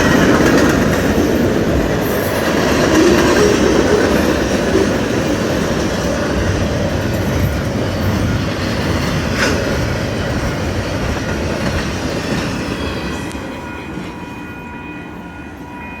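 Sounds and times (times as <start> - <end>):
train wheels rumbling and clacking: 0.0 - 16.0.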